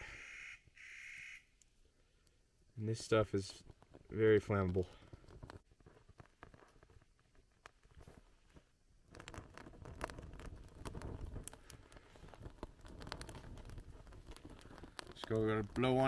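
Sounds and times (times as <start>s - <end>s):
twigs crackling in fire: 1.6s - 16.0s.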